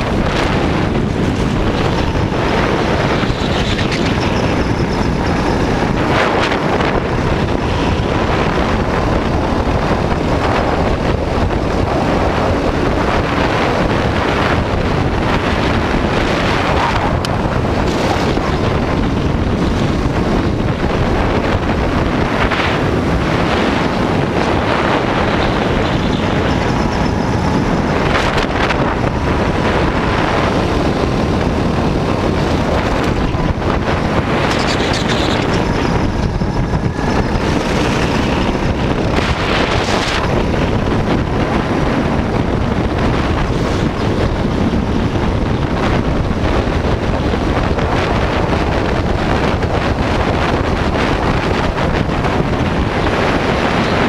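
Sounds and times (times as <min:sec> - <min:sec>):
kart engine running: 0:00.0 - 0:54.0
wind buffeting microphone: 0:00.0 - 0:54.0.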